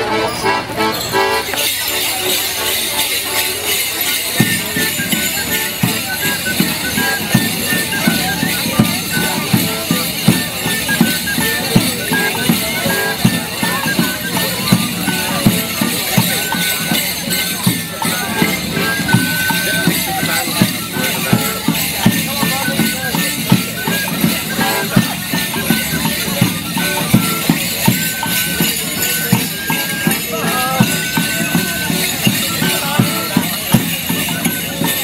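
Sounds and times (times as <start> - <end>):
folk band playing dance tune: 0.0 - 35.0
leg bells jingling: 0.0 - 35.0.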